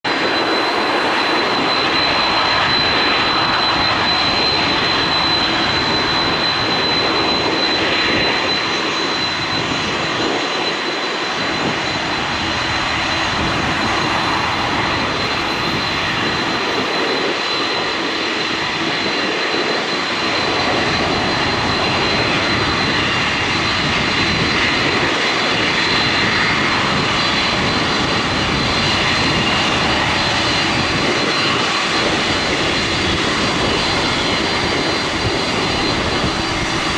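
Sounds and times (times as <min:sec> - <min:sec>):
jet engines running: 0:00.0 - 0:36.9
high whine: 0:00.1 - 0:36.9.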